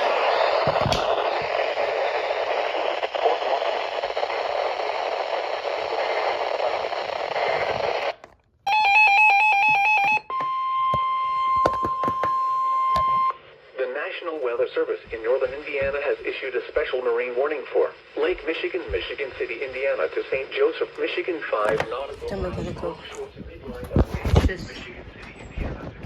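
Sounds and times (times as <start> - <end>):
radio static hiss: 0.0 - 8.2, 13.2 - 26.0.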